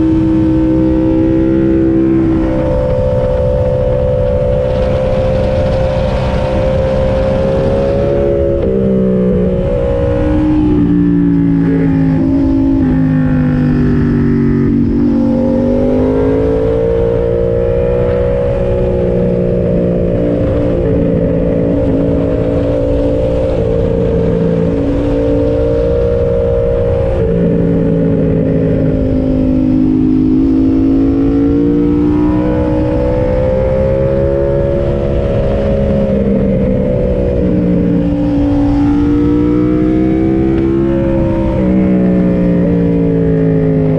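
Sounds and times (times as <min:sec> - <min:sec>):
motorcycle engine accelerating: 0:00.0 - 0:43.9
wind and road noise: 0:00.0 - 0:43.9.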